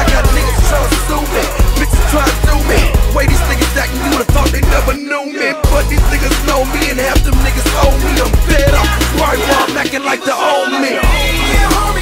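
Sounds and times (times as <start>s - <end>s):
hip hop music with heavy beat: 0.0s - 12.0s.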